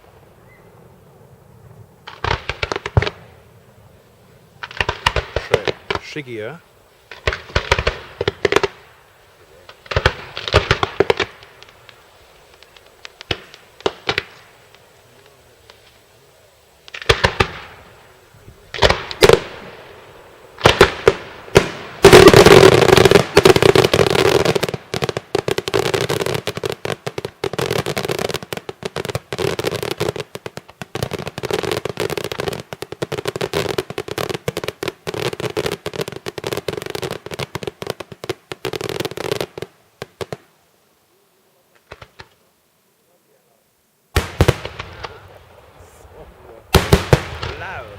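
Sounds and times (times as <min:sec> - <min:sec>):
fireworks bangs: 0:00.0 - 0:40.5, 0:41.7 - 0:42.4, 0:44.1 - 0:47.9.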